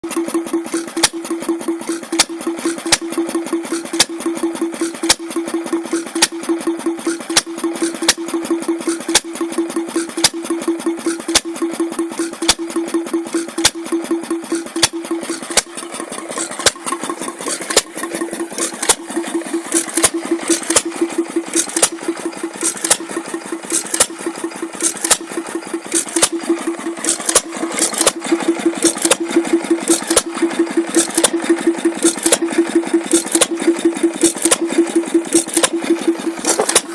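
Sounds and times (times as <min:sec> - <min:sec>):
model engine pulsing hum: 0:00.0 - 0:36.9
sharp engine clicks: 0:00.0 - 0:36.9.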